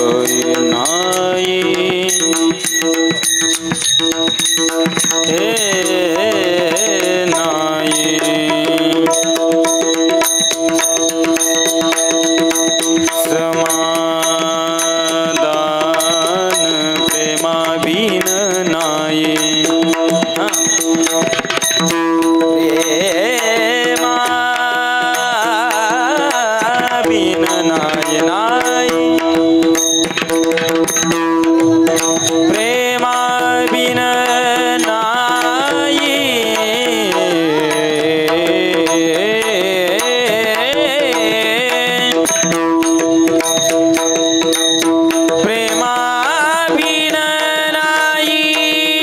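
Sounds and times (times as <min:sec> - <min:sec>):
devotional music: 0:00.0 - 0:49.0
held melodic notes: 0:00.0 - 0:49.0
pakhawaj drum strokes: 0:00.0 - 0:49.0.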